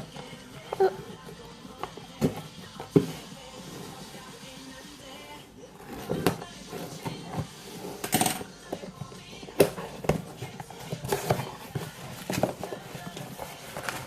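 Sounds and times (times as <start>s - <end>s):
quiet background music: 0.0s - 14.0s.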